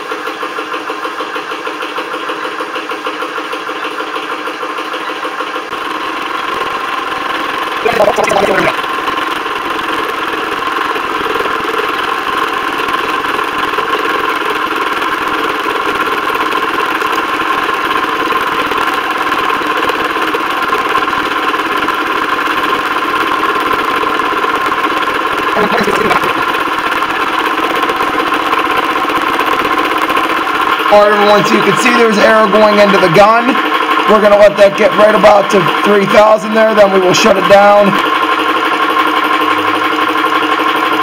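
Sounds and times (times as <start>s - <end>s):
air compressor running: 0.0s - 41.0s.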